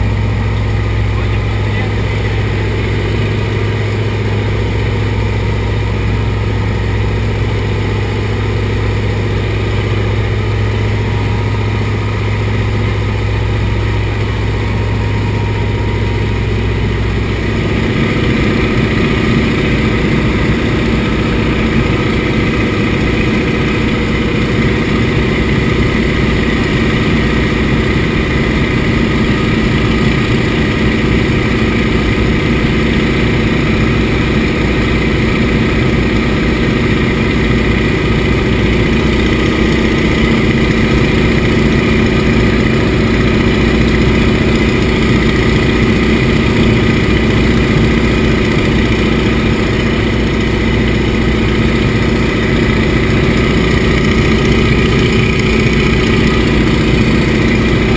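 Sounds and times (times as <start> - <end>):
radial aircraft engine running: 0.0 - 57.9.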